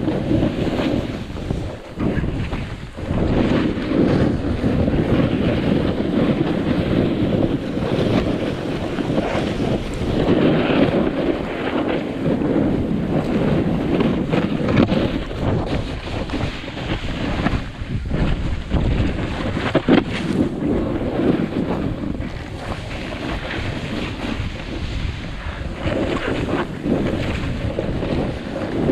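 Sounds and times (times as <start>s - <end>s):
snowboard scraping on snow: 0.0s - 28.9s
wind on microphone: 0.0s - 28.9s.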